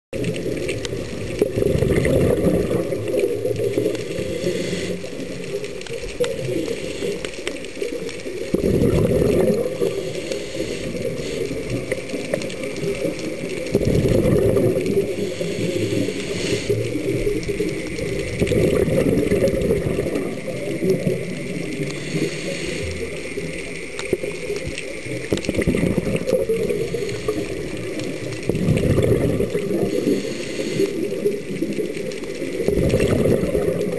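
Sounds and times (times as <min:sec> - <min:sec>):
regulator exhale bubbling gurgle: 0:00.2 - 0:33.9
regulator steady hiss: 0:02.4 - 0:32.7.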